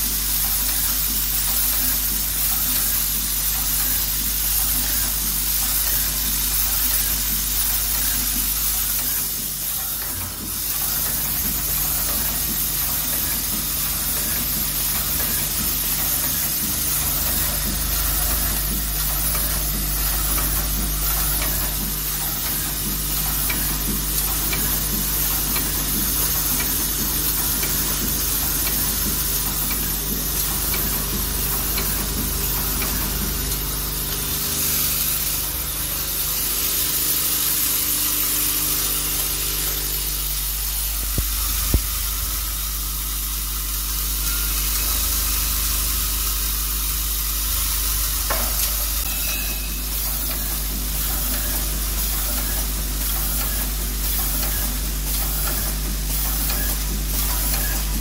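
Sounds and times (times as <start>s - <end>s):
machine motor hum: 0.0s - 58.0s.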